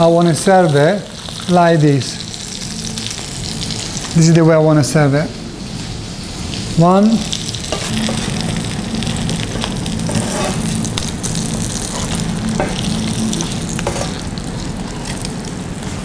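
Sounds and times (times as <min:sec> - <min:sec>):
fish sizzling in a frying pan: 0:00.0 - 0:04.3, 0:06.6 - 0:15.5.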